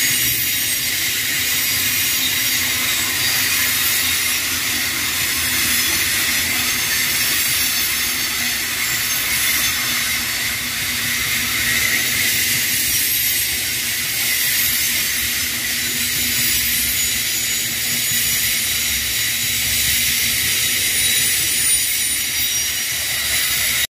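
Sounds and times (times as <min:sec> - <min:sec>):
freight train wheels on rails: 0:00.0 - 0:23.9.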